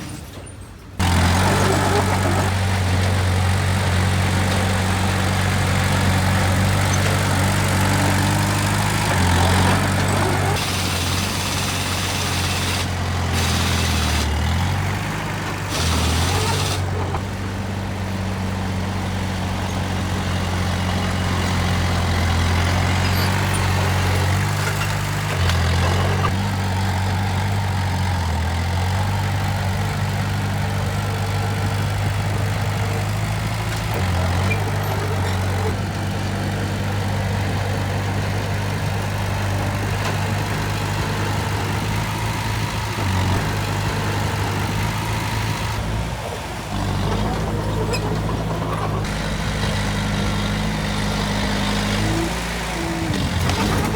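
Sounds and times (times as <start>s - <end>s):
heavy diesel engine running: 1.0s - 53.9s.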